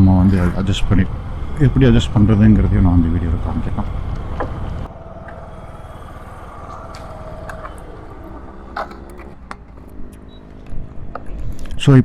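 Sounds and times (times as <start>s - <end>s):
scooter engine idling: 0.0s - 10.6s.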